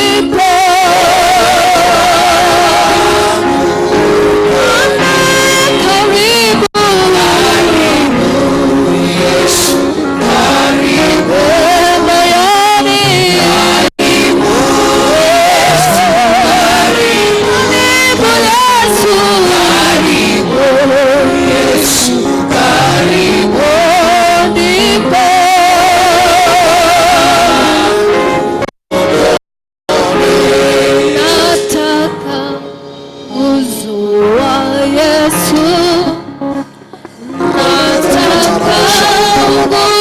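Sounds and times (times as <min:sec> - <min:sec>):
man singing with vibrato: 0:00.0 - 0:36.6, 0:37.2 - 0:40.0
sustained musical backing: 0:00.0 - 0:40.0.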